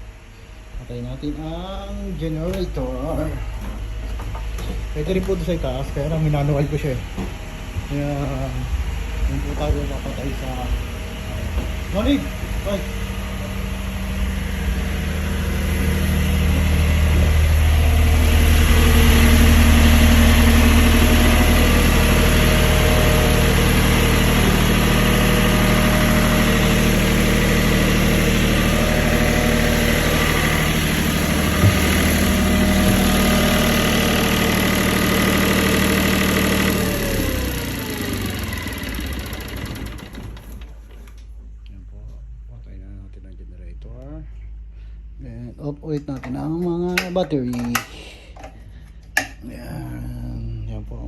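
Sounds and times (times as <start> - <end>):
generator engine running: 0.0 - 41.3.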